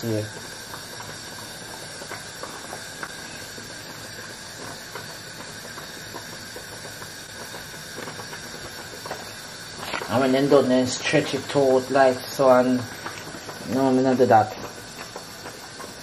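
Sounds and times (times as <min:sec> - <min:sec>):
water boiling in pot: 0:00.0 - 0:16.0.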